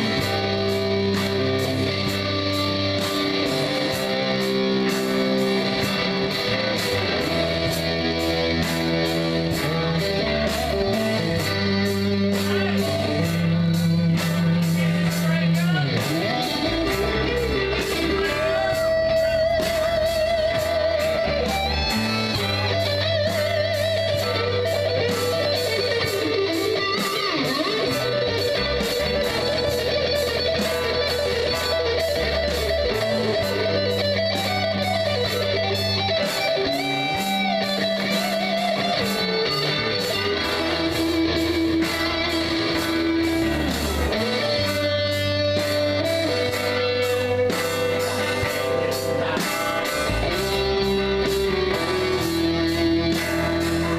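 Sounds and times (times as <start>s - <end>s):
bass notes: 0.0s - 53.9s
drums and cymbals beat: 0.0s - 53.9s
electric guitar lead: 0.0s - 53.9s.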